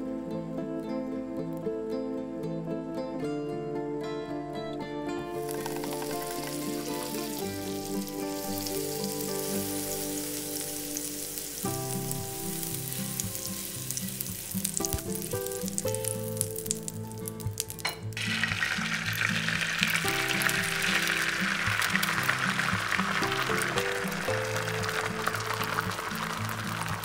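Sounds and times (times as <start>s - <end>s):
butter sizzling in a frying pan: 5.4s - 27.0s
eggs sizzling in a pan: 5.4s - 27.0s.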